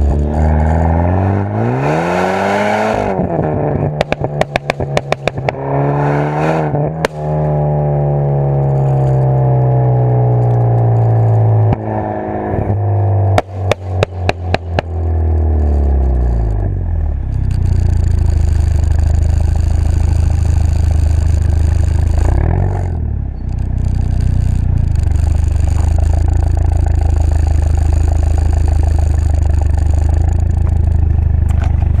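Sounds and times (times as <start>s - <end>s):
exhaust pops and crackles: 2.9s - 5.9s, 6.6s - 12.0s, 12.7s - 32.0s.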